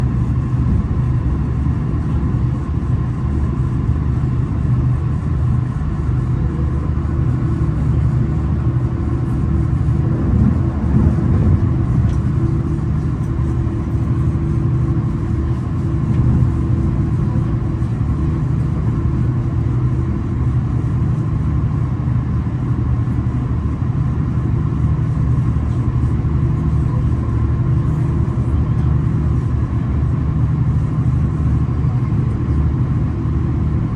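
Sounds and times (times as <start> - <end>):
train rumble from inside carriage: 0.0 - 33.9.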